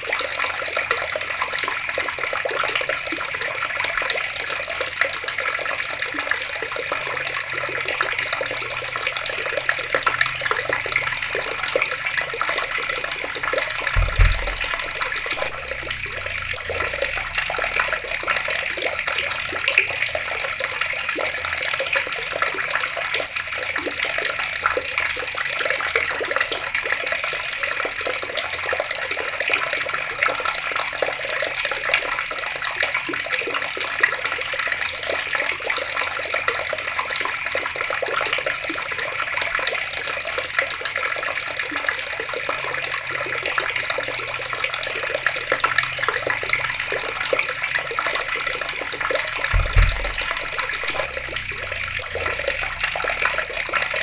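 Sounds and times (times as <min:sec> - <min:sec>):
water running from a tap: 0:00.0 - 0:54.0.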